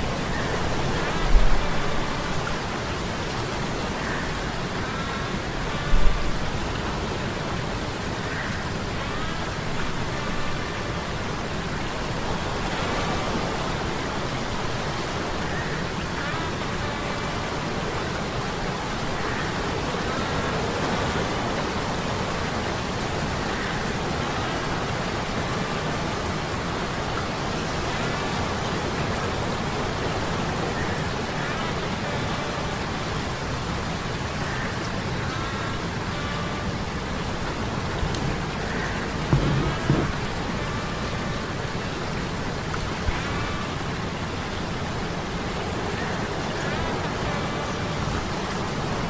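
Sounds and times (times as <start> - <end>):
storm hiss of rain and surf: 0.0 - 49.0.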